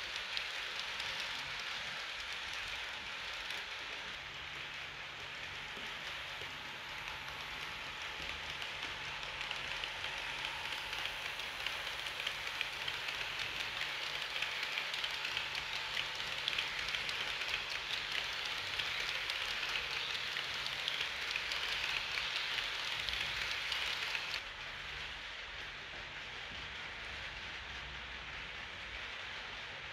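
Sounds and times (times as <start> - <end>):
model train wheels rattling on rails: 0.0 - 29.9.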